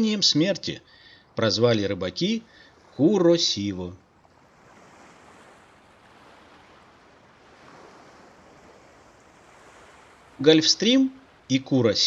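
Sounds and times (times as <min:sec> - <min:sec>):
faint sea waves: 0:00.0 - 0:12.0.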